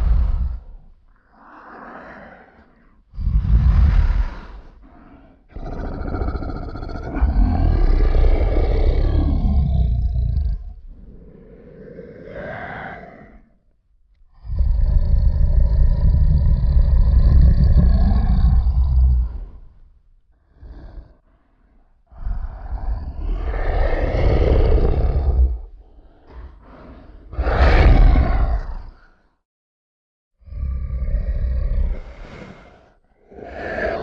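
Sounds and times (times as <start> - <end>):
big cat roaring: 0.0 - 13.6, 14.3 - 19.8, 20.5 - 21.2, 22.1 - 29.2, 30.4 - 34.0.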